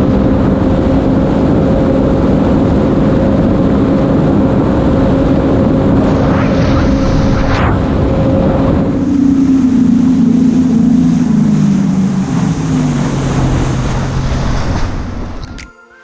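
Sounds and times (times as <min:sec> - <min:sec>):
jet ski engine running: 0:00.0 - 0:05.9, 0:07.8 - 0:15.6
steady rushing noise: 0:00.0 - 0:15.6.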